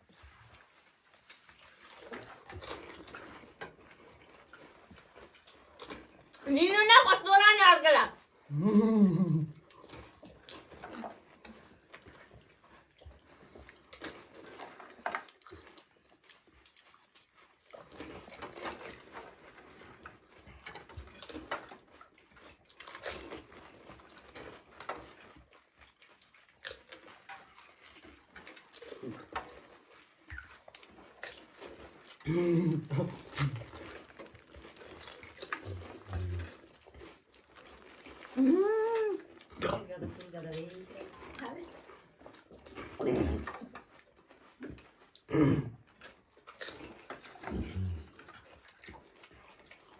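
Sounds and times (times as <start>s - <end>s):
crisp food crunching: 0.0s - 6.5s, 8.2s - 49.9s.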